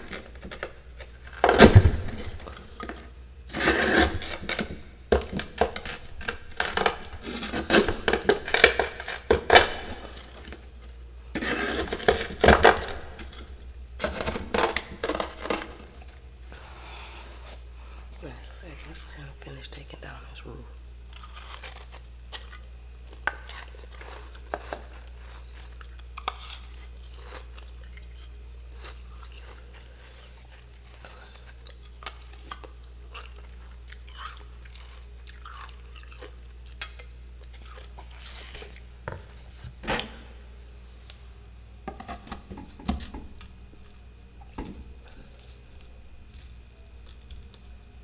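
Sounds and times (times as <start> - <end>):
crunchy chewing of frost: 0.0 - 19.3, 21.1 - 39.6, 45.0 - 48.0
steady low hum: 0.0 - 48.0.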